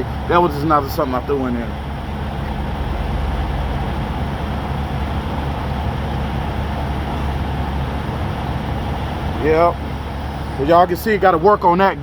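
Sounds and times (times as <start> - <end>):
trucks idling: 0.0 - 12.0.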